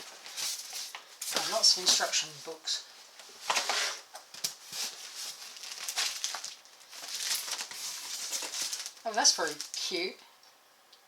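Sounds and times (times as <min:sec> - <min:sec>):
packaging rustling and crinkling: 0:00.0 - 0:02.3, 0:03.4 - 0:10.0.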